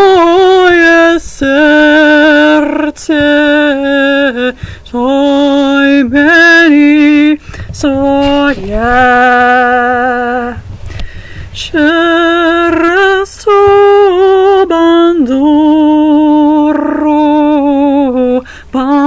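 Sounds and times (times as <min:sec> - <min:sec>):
person singing unaccompanied: 0:00.0 - 0:19.0.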